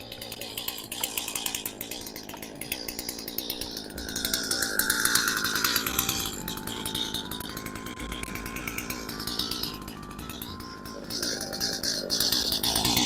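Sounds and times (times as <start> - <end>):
chainsaw running: 0.0 - 13.0.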